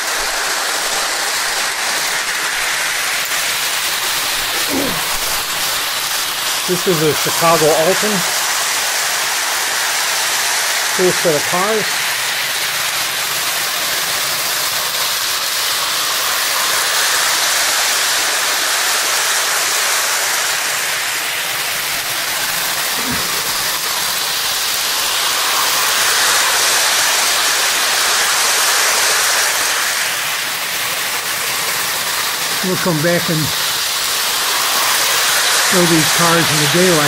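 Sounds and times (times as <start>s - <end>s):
toy train rattling on rails: 0.0s - 37.0s.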